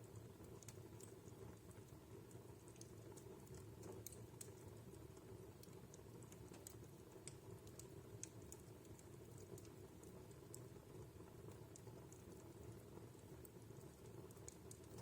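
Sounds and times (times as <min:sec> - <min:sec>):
soft low background noise: 0:00.0 - 0:15.0
wood fire crackling: 0:00.0 - 0:15.0.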